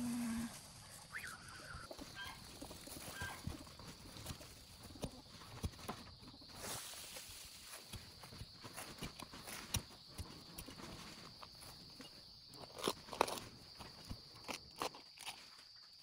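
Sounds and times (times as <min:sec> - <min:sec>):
soil being dug and scraped: 0:00.0 - 0:16.0.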